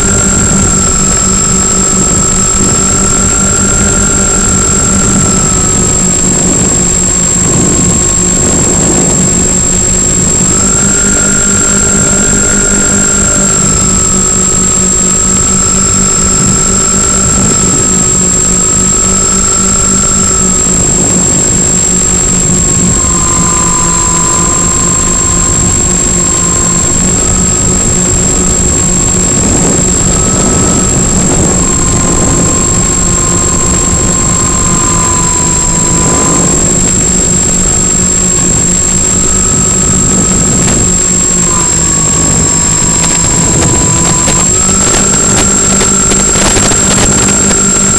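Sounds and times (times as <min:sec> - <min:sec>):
model plane motors droning: 0:00.0 - 0:47.9
steady high whine: 0:00.0 - 0:47.9
wind rush: 0:00.0 - 0:47.9.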